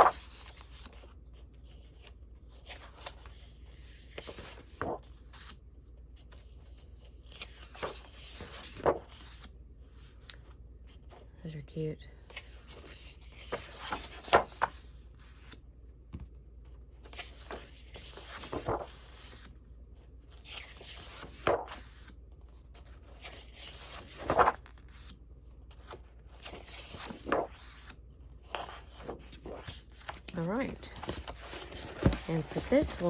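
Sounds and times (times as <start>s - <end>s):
paper rustling and crinkling: 0.0s - 5.6s, 6.2s - 11.1s, 12.3s - 15.6s, 16.9s - 19.7s, 20.3s - 33.0s.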